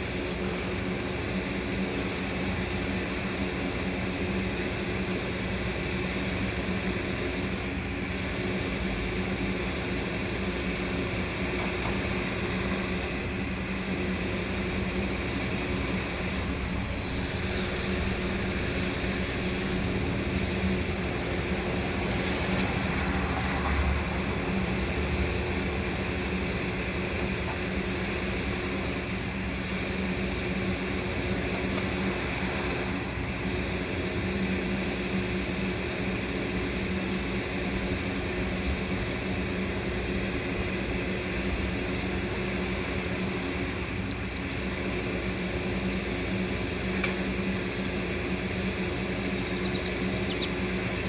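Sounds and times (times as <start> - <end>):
steady high hiss: 0.0 - 51.0
heavy machine engine drone: 0.1 - 51.0.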